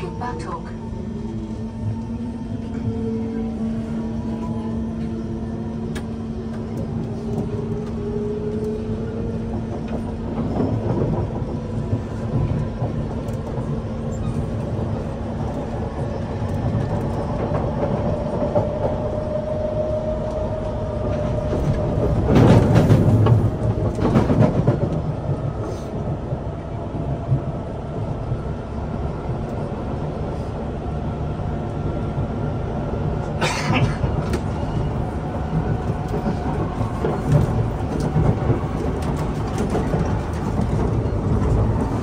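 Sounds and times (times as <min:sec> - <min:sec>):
train wheels rumbling on track: 0:00.0 - 0:42.0
wheels rattling on track: 0:00.0 - 0:42.0.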